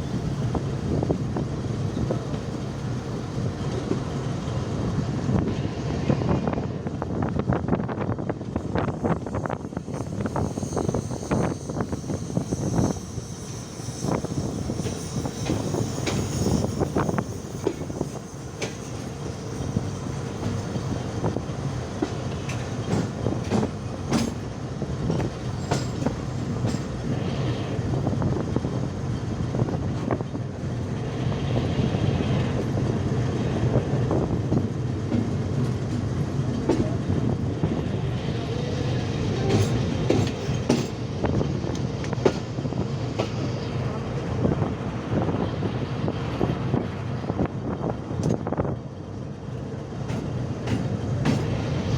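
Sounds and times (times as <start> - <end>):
train rumble: 0.0 - 51.9
train wheels clicking over rail joints: 8.3 - 45.3, 46.2 - 51.9.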